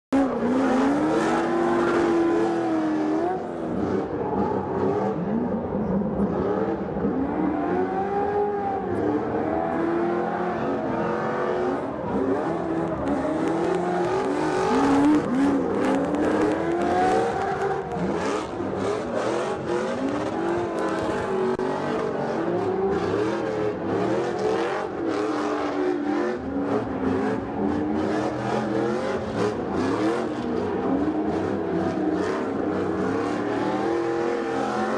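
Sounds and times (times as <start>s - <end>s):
truck engines revving: 0.1s - 34.9s.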